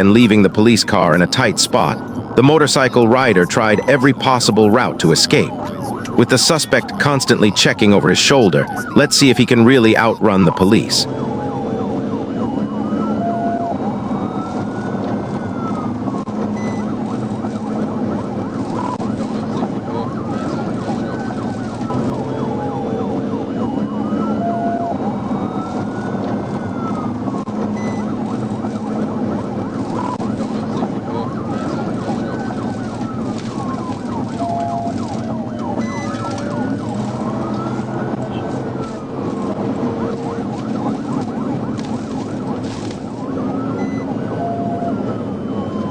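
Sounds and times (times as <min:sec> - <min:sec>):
police siren wailing: 0:00.0 - 0:45.9.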